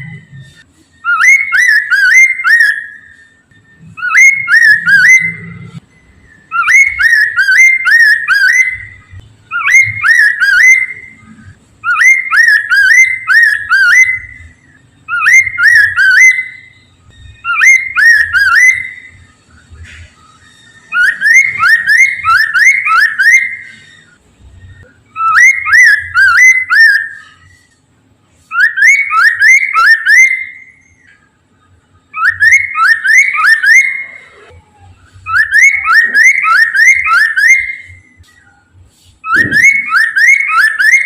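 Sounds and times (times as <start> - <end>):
bird singing whistled notes: 0.0 - 27.8, 28.4 - 41.0.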